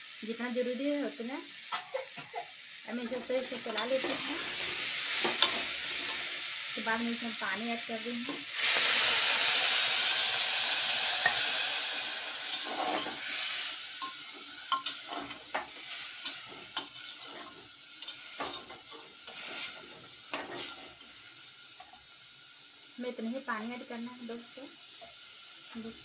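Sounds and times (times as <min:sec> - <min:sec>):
water sizzling in hot pot: 0:00.0 - 0:26.0.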